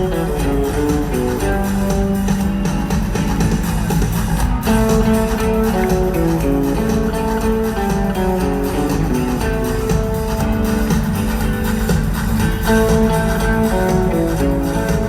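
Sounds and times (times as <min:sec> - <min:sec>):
bass guitar: 0:00.0 - 0:15.0
drum beat: 0:00.0 - 0:15.0
electric guitars: 0:00.0 - 0:15.0.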